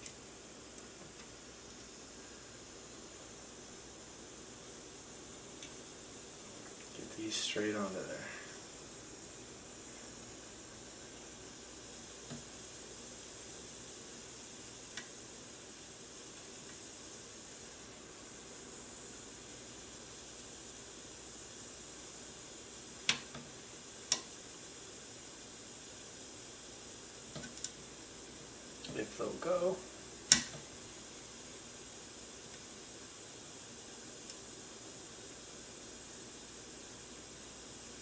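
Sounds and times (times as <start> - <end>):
gas soldering iron hissing: 0.0 - 38.0.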